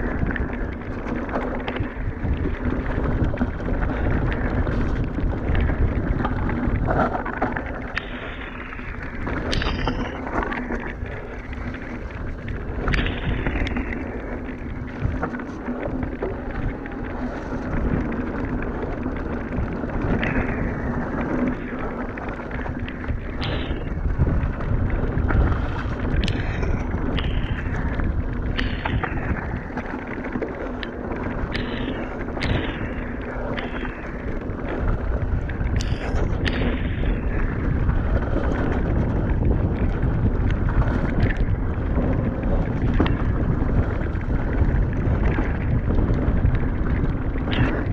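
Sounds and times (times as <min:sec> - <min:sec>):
bike knocking and rattling: 0:00.0 - 0:47.9
wind over microphone: 0:00.0 - 0:47.9.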